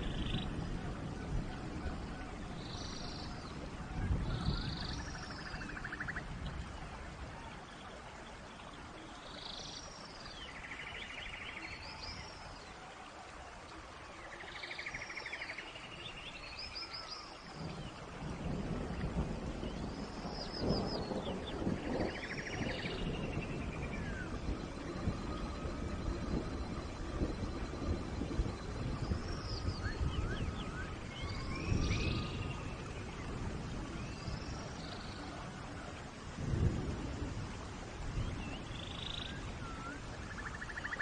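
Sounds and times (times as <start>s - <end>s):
rain hissing: 0.0s - 41.0s.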